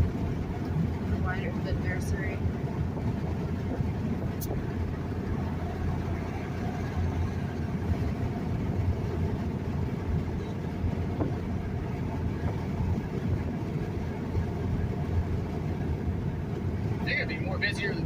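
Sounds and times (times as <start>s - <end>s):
truck road and engine rumble: 0.0s - 18.0s.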